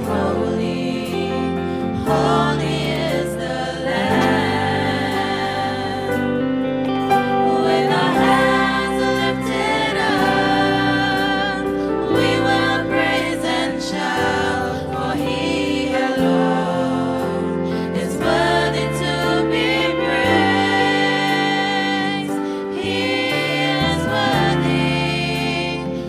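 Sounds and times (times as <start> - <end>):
instrumental backing: 0.0 - 26.0
youth choir singing gospel: 0.0 - 26.0.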